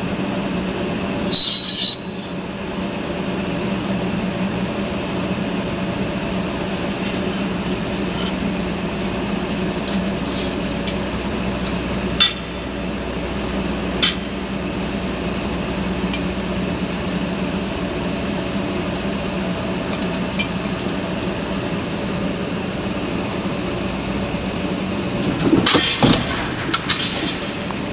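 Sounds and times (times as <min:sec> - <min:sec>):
steady mechanical hum: 0:00.0 - 0:27.9.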